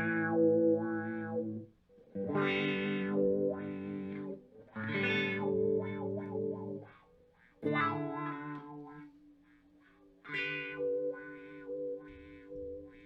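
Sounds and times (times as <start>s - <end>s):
electric guitar chords throbbing: 0.0s - 7.0s, 7.6s - 9.4s, 10.2s - 13.0s.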